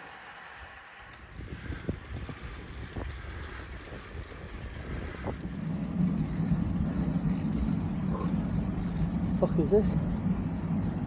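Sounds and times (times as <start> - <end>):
wind buffeting microphone: 1.0 - 11.0.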